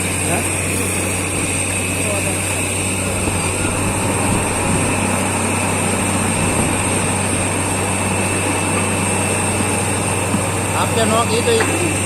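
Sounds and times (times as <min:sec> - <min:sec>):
drilling rig drone: 0:00.0 - 0:12.0
high machine whine: 0:00.0 - 0:12.0.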